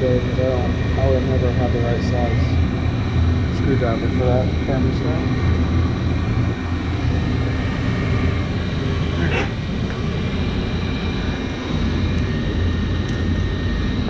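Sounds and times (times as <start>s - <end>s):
gas furnace droning: 0.0s - 14.0s.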